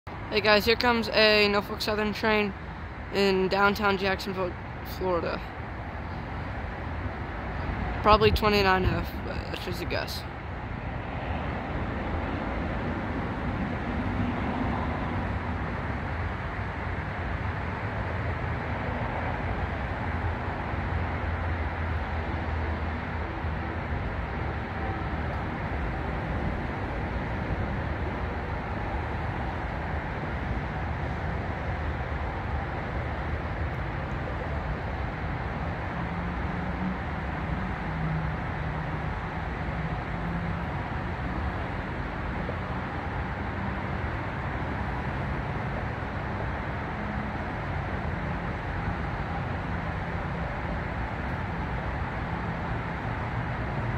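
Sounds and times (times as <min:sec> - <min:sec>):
city traffic noise: 0:00.1 - 0:53.9
distant diesel locomotive rumble: 0:00.1 - 0:53.9
faint steady tones: 0:00.1 - 0:53.9
low engine hum: 0:00.1 - 0:53.9.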